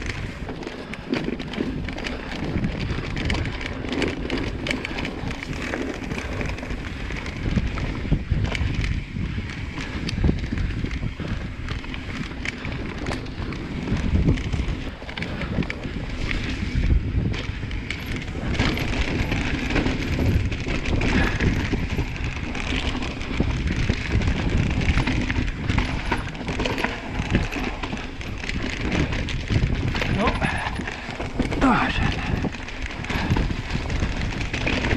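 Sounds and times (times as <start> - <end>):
bike clattering and knocking: 0.0 - 34.9
bike tyres rolling on dirt: 0.0 - 34.9
wind rumbling on microphone: 0.0 - 34.9.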